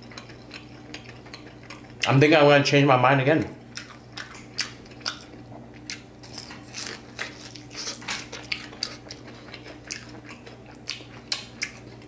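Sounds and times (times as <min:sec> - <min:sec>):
crunching of fried food being chewed: 0:00.0 - 0:02.2, 0:03.7 - 0:12.0.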